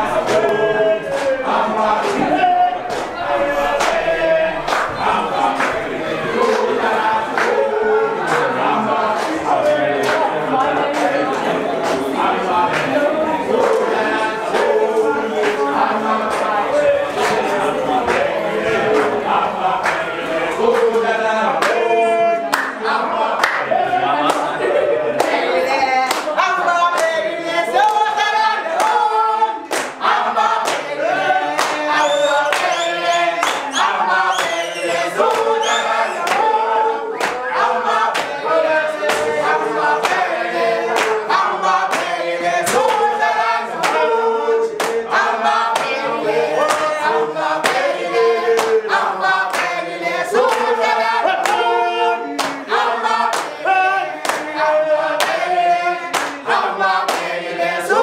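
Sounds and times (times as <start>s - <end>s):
young voices singing together: 0.0s - 58.0s.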